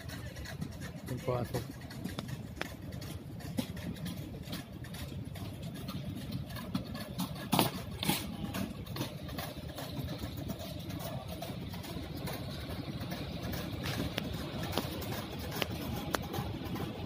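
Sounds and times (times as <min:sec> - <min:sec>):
terminal hall rumble: 0:00.0 - 0:17.0.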